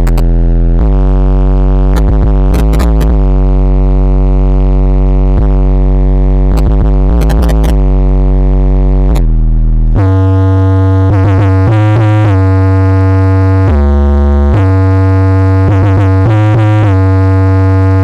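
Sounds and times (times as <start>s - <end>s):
loud electronic music with heavy bass: 0.0s - 18.0s.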